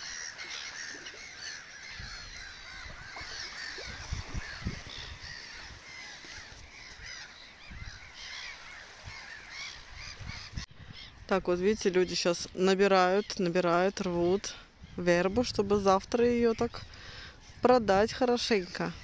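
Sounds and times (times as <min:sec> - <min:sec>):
flock of birds calling: 0:00.0 - 0:15.6.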